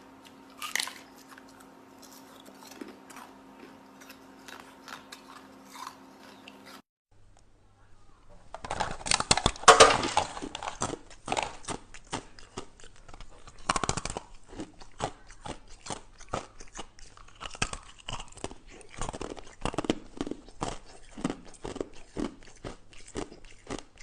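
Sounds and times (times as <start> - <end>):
ice being chewed: 0.2 - 6.8, 10.2 - 24.0.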